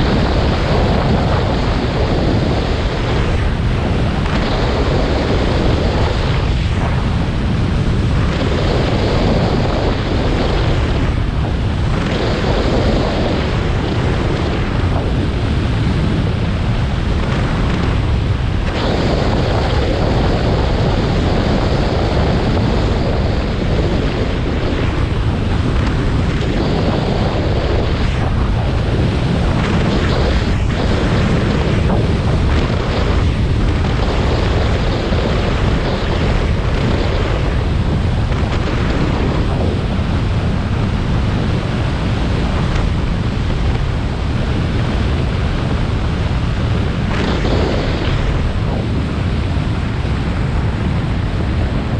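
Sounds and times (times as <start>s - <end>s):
snowboard scraping over snow: 0.0s - 51.9s
wind rumbling on microphone: 0.0s - 51.9s.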